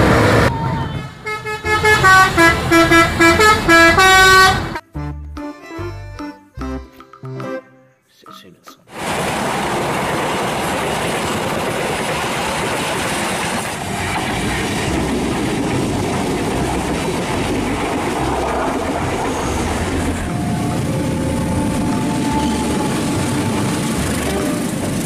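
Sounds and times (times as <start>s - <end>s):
diesel locomotive passing: 0.0s - 4.8s, 8.9s - 25.0s
trains passing on rails: 0.0s - 4.8s, 8.9s - 25.0s.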